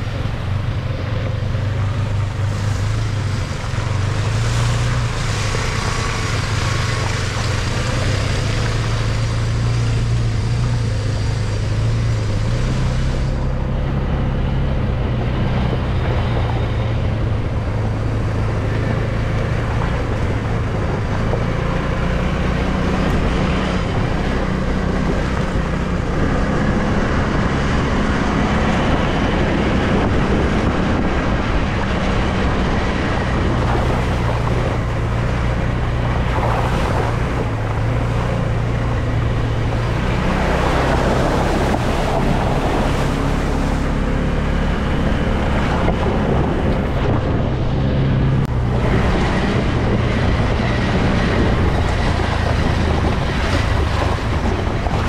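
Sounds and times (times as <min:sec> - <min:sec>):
atv engine revving: 0:00.0 - 0:55.0
wind on microphone: 0:01.2 - 0:55.0.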